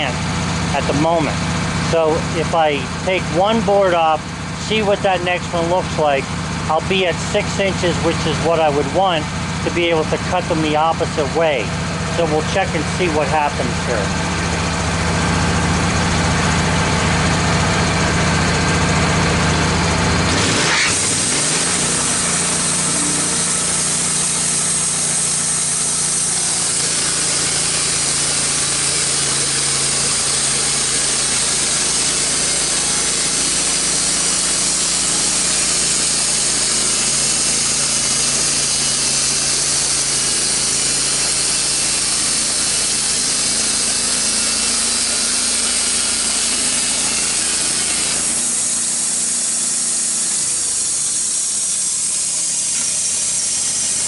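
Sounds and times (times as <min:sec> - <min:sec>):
band sawmill cutting wood: 0:00.0 - 0:54.0.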